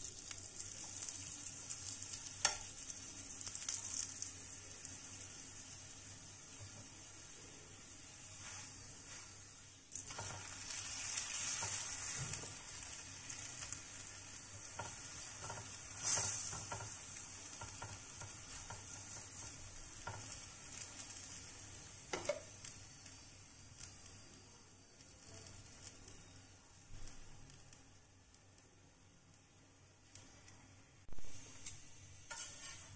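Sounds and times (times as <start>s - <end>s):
flatbread sizzling in a pan: 0.0s - 32.9s.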